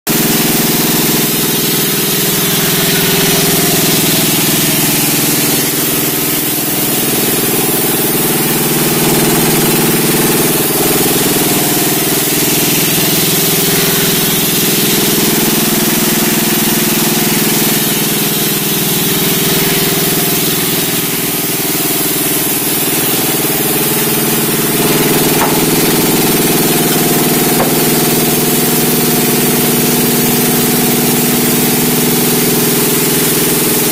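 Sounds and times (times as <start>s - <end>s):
sawmill engine droning: 0.1s - 33.9s.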